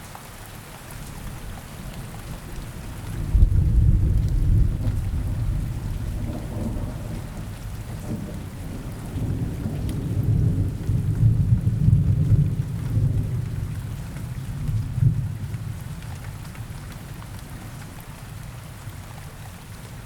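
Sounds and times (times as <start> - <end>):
steady rain in a forest: 0.0 - 20.0
distant thunder rumbling: 1.3 - 17.8.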